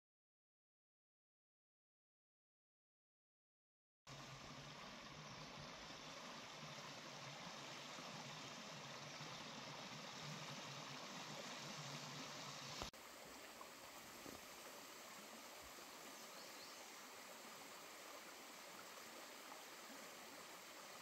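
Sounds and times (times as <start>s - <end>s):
stream flowing over rocks: 4.1s - 21.0s.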